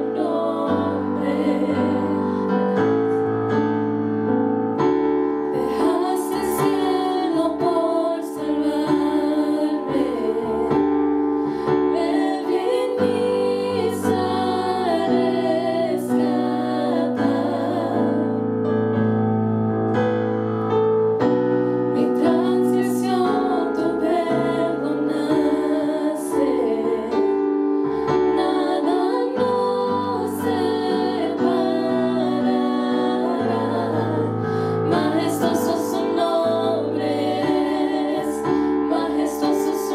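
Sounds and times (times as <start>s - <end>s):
women singing worship song: 0.0s - 3.2s, 5.5s - 18.6s, 21.9s - 39.9s
keyboard accompaniment: 0.0s - 39.9s.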